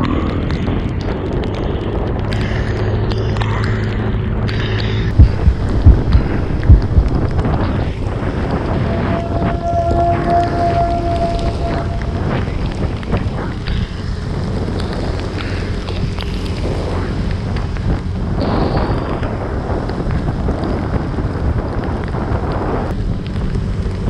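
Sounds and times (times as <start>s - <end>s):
road noise: 0.0s - 24.0s
wind rushing over microphone: 0.0s - 24.0s.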